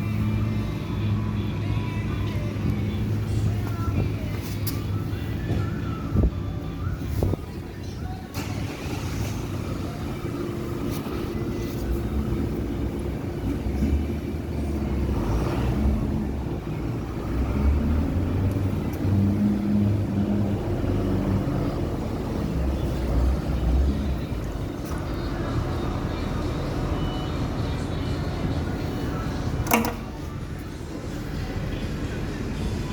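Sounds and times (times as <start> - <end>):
tractor diesel engine rumbling: 0.0 - 32.9.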